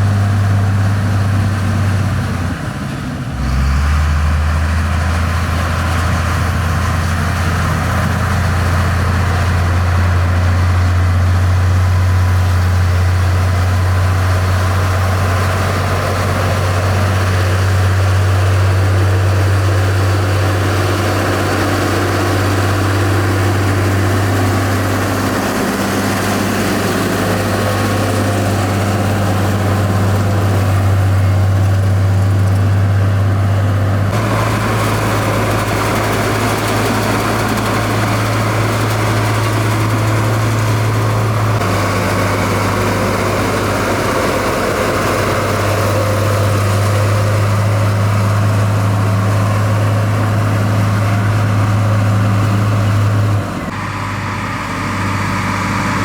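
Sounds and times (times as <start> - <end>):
heavy machine engine droning: 0.0 - 56.0.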